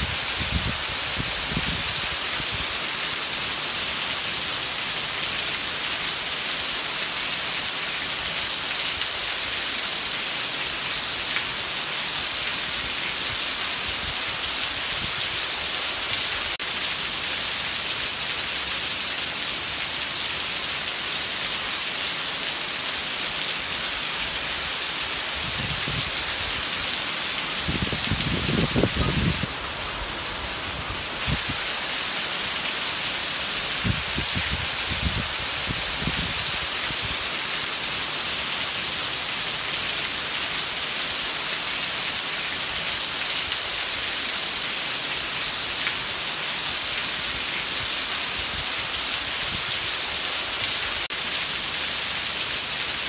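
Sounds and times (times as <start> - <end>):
heavy rain pouring and splashing: 0.0 - 53.0.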